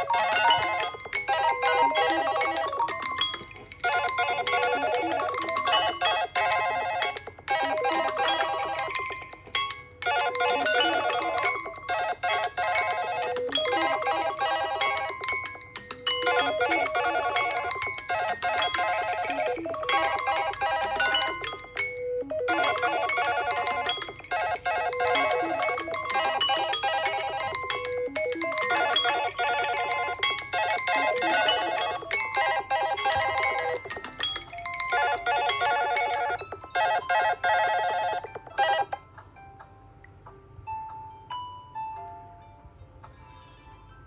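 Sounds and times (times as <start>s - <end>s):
smartphone alarm melody: 0.0s - 39.0s.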